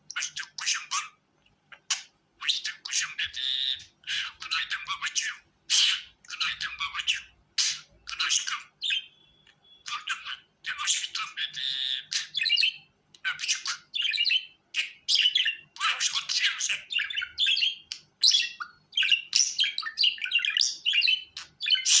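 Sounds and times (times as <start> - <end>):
budgerigar chattering: 0.1 - 1.2, 1.8 - 22.0.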